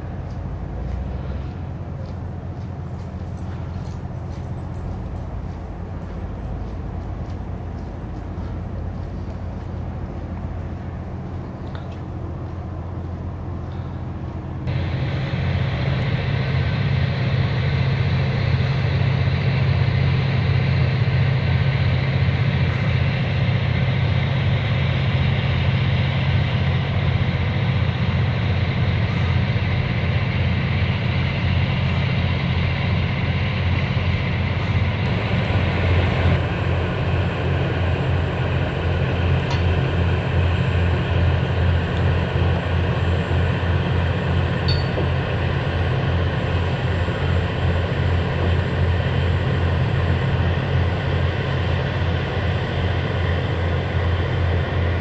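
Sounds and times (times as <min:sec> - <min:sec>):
diesel boat engine throbbing: 0:00.0 - 0:55.0.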